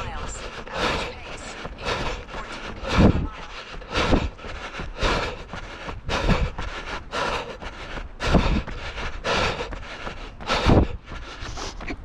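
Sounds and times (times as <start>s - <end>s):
heavy breathing: 0.0s - 12.0s.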